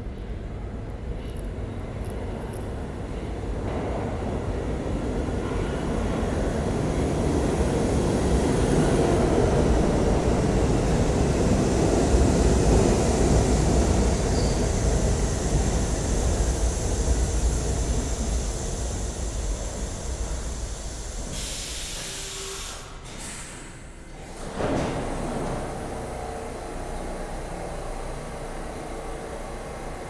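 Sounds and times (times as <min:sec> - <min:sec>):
subway train wheels rumbling: 0:00.0 - 0:30.0.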